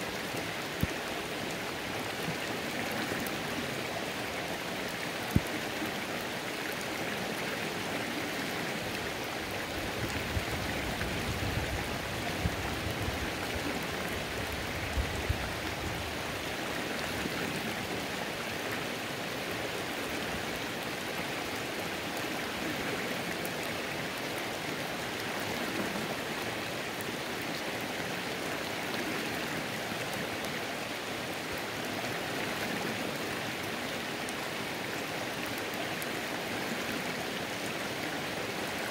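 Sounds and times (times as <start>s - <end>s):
rain hiss: 0.0s - 38.9s
running stream water: 0.0s - 38.9s.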